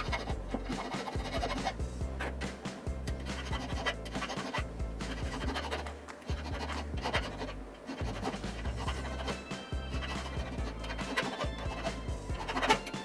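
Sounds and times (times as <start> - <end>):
hand file rasping on wood: 0.0 - 13.0.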